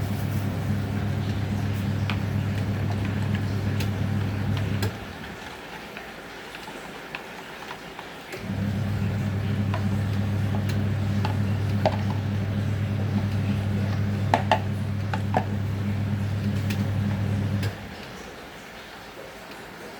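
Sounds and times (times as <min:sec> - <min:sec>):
washing machine motor hum: 0:00.0 - 0:19.9.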